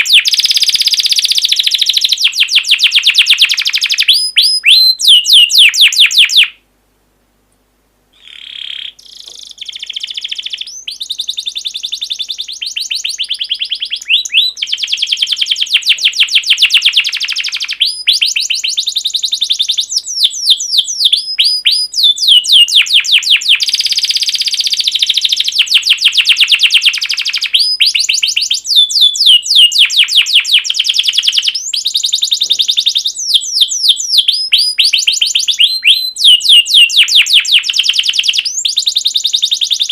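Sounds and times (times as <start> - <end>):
songbird chirping: 0.0 - 6.7, 7.5 - 39.9.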